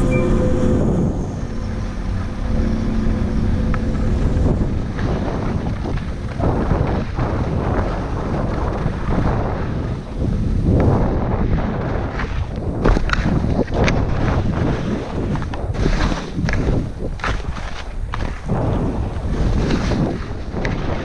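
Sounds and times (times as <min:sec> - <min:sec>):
wind buffeting microphone: 0:00.0 - 0:21.0
skis scraping on snow: 0:02.4 - 0:21.0
skis chattering through snow: 0:04.2 - 0:21.0.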